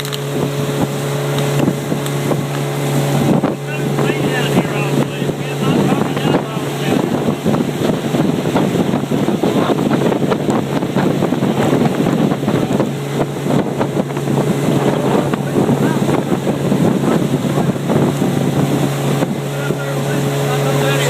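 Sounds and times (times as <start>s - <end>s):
motorboat engine running: 0.0s - 21.0s
wind buffeting microphone: 0.0s - 21.0s.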